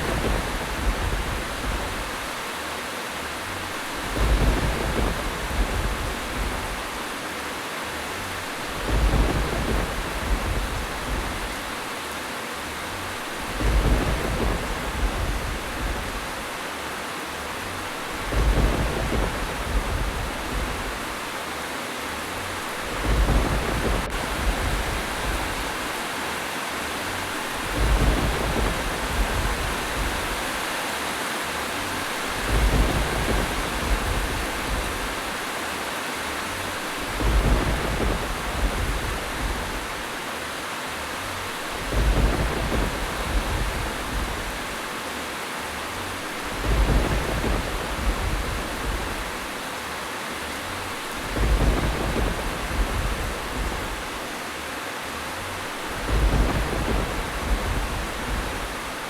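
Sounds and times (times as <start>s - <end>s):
thunder rumbling: 0.0s - 2.4s, 3.4s - 7.2s, 8.0s - 12.0s, 12.8s - 16.8s, 17.5s - 26.1s, 27.0s - 35.6s, 36.4s - 49.8s, 50.4s - 54.5s, 55.2s - 59.0s
rain hissing: 0.0s - 59.0s.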